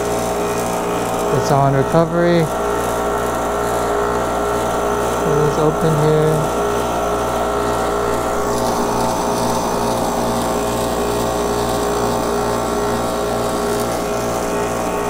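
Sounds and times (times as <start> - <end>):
recovery machine humming: 0.0 - 15.0.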